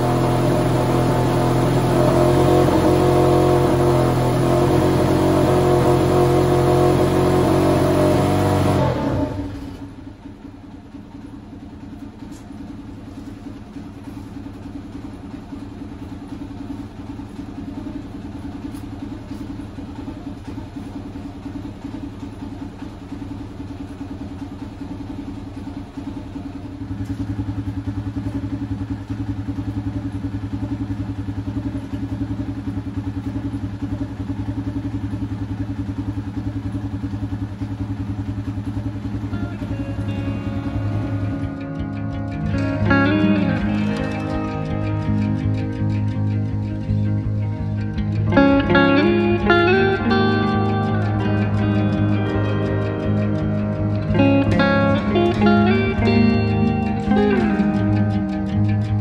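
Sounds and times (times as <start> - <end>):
rickshaw engine running: 0.0 - 59.0.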